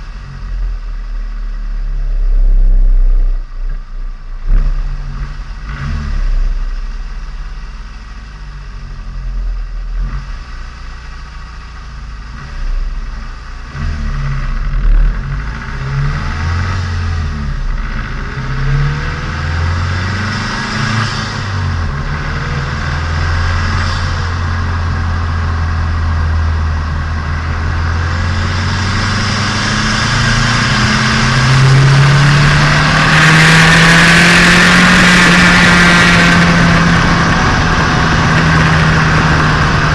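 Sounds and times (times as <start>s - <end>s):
car engine and exhaust revving: 0.0s - 39.9s.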